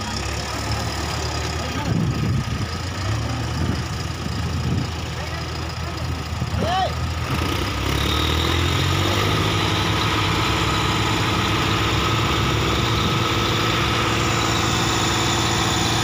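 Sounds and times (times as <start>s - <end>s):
diesel engines running: 0.0s - 16.0s
loader bucket pushing trailer: 0.0s - 16.0s.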